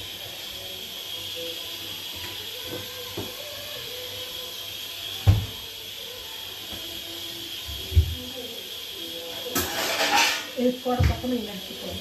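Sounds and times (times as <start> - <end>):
steam hissing from pressure cooker: 0.0 - 12.0.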